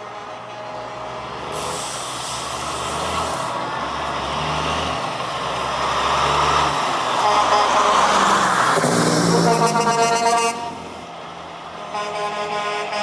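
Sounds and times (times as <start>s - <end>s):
truck diesel engines driving past: 0.0s - 13.0s.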